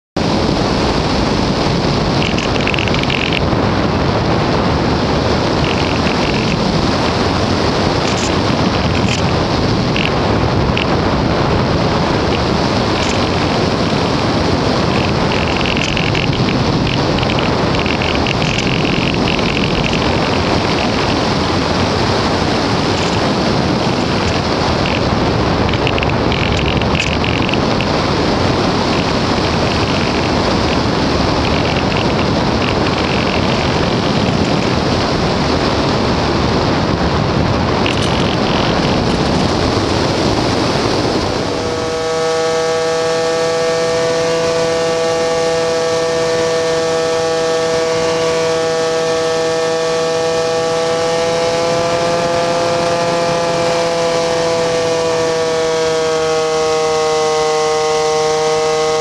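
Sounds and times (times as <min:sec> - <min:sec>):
wind rushing over microphone: 0:00.2 - 0:59.0
high buzzing: 0:00.7 - 0:36.1, 0:37.6 - 0:59.0.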